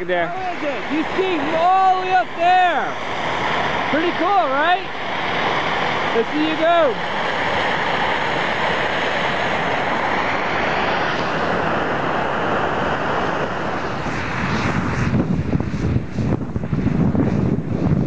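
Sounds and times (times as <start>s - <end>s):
snowmaking gun rushing hiss: 0.0s - 18.0s
wind buffeting microphone: 0.0s - 18.0s.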